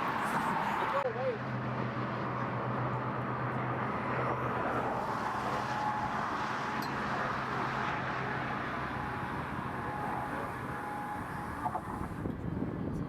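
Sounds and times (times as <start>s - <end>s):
low engine hum: 0.0s - 13.0s
road traffic noise: 0.0s - 13.0s.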